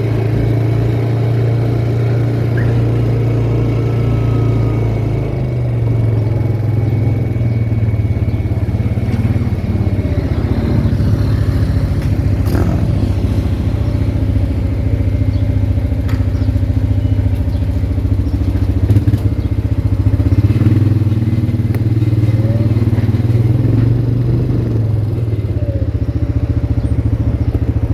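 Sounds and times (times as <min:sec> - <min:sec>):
atv engine running: 0:00.0 - 0:27.9.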